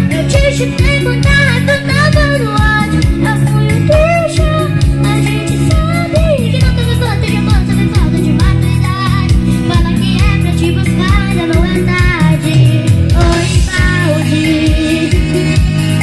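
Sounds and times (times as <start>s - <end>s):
band music with fast beat: 0.0s - 16.0s.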